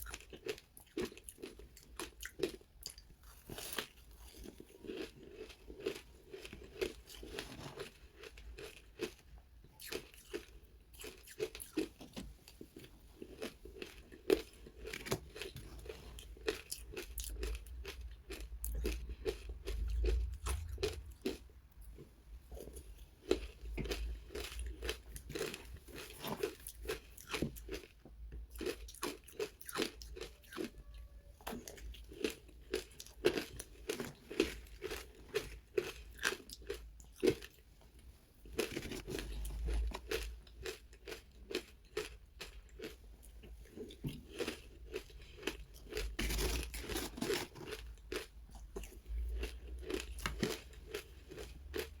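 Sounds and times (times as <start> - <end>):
chewing and crunching ice: 0.0 - 52.0.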